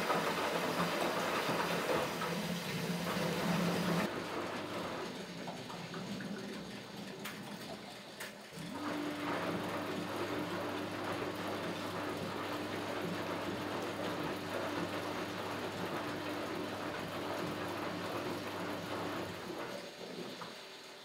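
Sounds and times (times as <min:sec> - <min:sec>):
washing machine motor hum: 0:00.0 - 0:21.0
water and laundry sloshing: 0:00.0 - 0:21.0.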